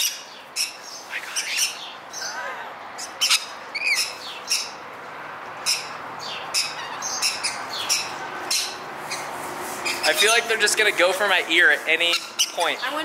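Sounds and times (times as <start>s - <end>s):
lorikeets screeching: 0.0s - 4.8s, 5.6s - 10.8s, 11.9s - 13.0s.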